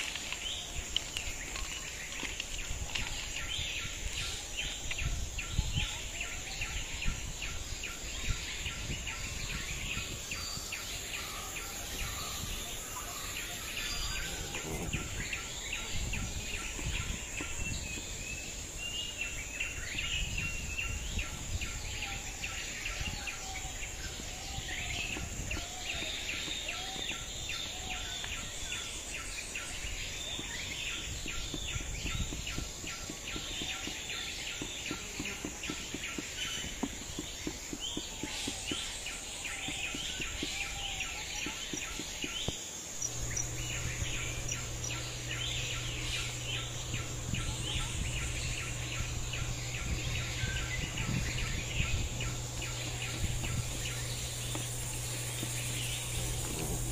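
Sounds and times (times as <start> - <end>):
bird calls: 0.0 - 56.9
wind rumble on microphone: 0.0 - 56.9
high insect buzz: 7.5 - 56.9.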